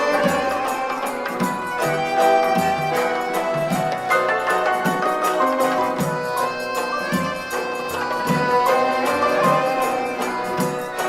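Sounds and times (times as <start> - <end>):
traditional-style instrumental music: 0.0 - 11.0.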